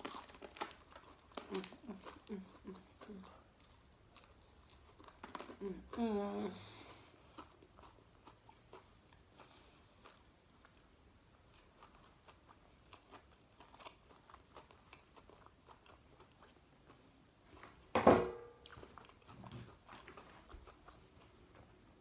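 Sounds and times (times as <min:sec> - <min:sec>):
person chewing: 0:00.0 - 0:06.0, 0:06.7 - 0:17.8, 0:18.5 - 0:21.9.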